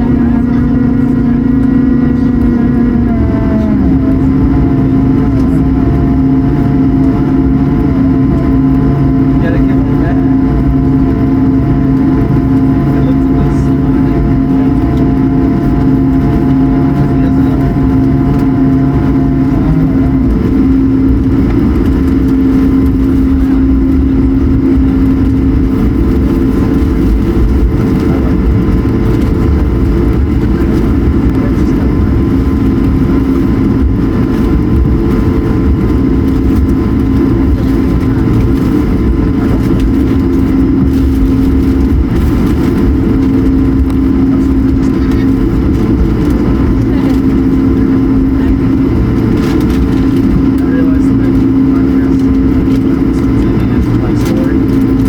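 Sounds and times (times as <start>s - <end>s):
humming tones: 0.0s - 55.0s
jet engines rumbling: 0.0s - 55.0s.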